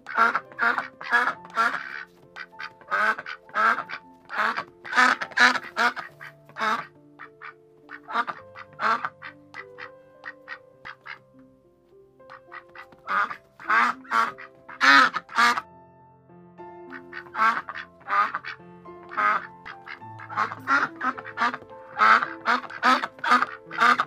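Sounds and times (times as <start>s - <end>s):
ducks quacking: 0.0s - 11.2s, 12.3s - 15.6s, 16.9s - 24.0s
background music of held notes: 0.0s - 24.0s.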